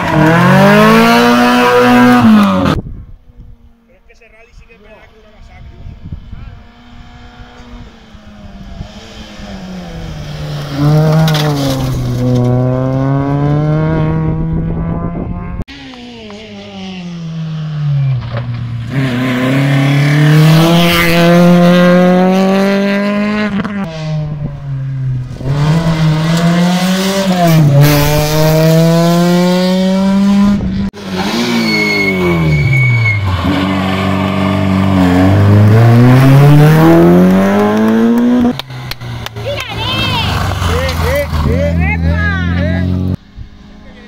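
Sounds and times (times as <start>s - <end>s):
rally car engines revving: 0.0s - 2.8s, 5.2s - 44.0s.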